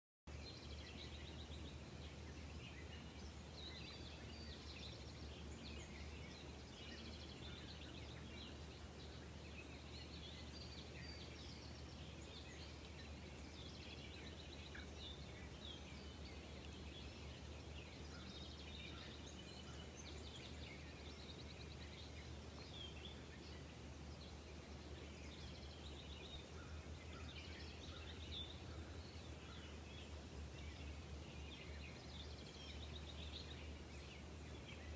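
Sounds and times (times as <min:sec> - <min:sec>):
small birds chirping: 0:00.3 - 0:34.9.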